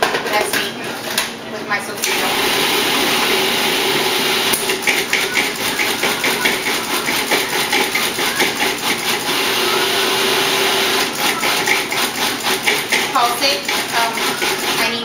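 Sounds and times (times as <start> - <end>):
food processor motor running: 2.0 - 15.0.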